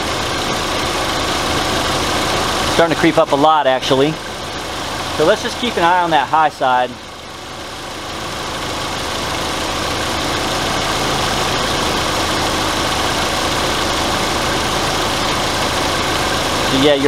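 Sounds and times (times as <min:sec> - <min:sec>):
car engine idling with broad hiss: 0:00.0 - 0:17.0.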